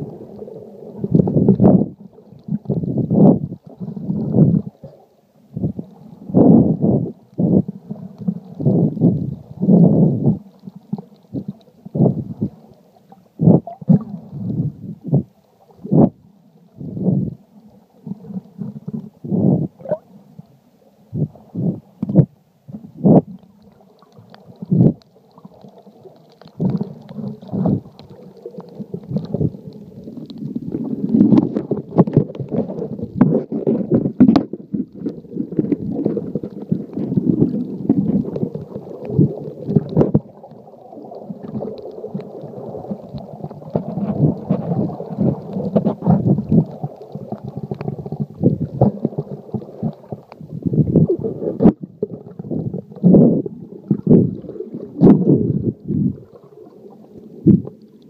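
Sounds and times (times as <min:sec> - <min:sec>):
muffled water sloshing underwater: 0:00.0 - 0:58.0.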